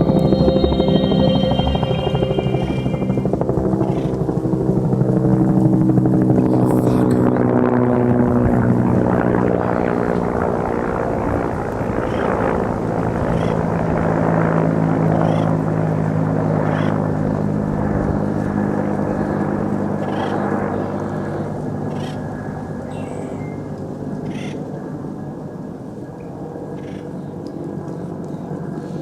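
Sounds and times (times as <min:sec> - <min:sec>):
helicopter flying low: 0:00.0 - 0:29.0.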